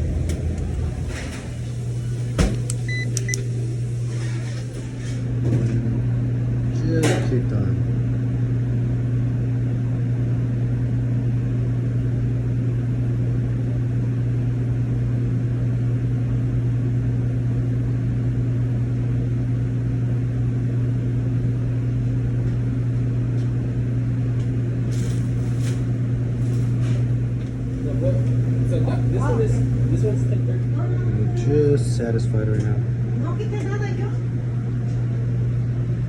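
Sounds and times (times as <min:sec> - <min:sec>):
refrigeration compressor humming: 0:00.0 - 0:36.0.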